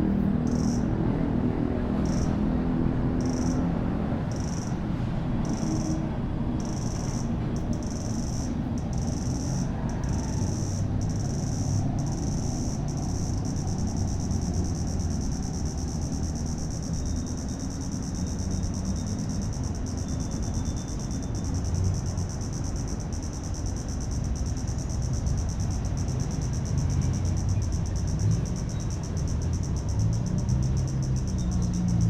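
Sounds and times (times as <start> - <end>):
city traffic rumble: 0.0 - 32.0
insect chirping: 0.3 - 0.9, 2.0 - 2.4, 3.2 - 3.7, 4.3 - 4.8, 5.4 - 6.0, 6.6 - 32.0.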